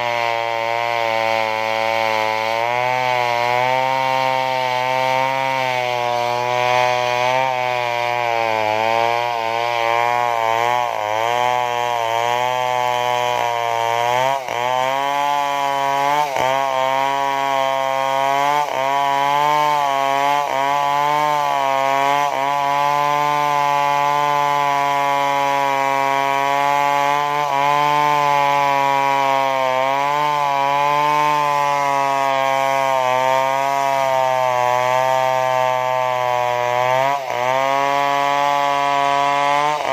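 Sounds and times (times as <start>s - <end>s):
chainsaw cutting into tree trunk: 0.0s - 39.9s.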